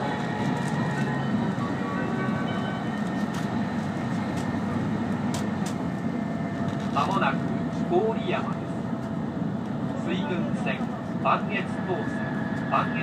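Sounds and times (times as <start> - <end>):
train running at speed: 0.0 - 13.0.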